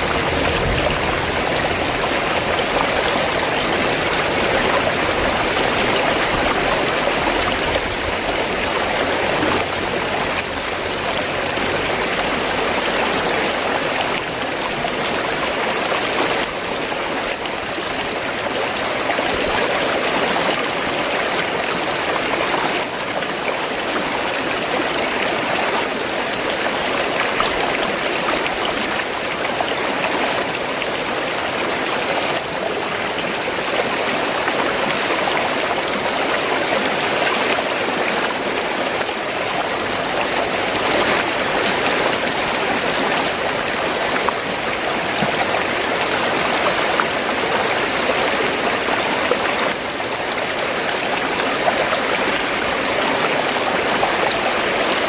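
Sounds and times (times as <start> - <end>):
stream gurgling: 0.0 - 55.0.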